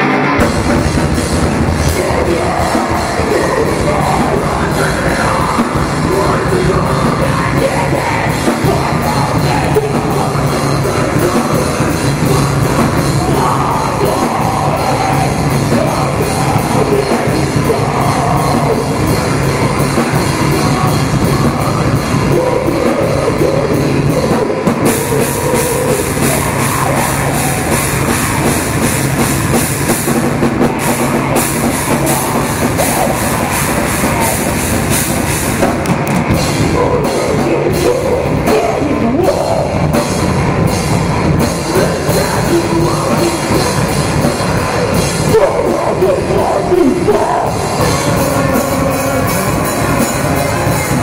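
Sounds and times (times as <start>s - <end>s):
drum kit: 0.0s - 51.0s
electric guitar: 0.0s - 51.0s.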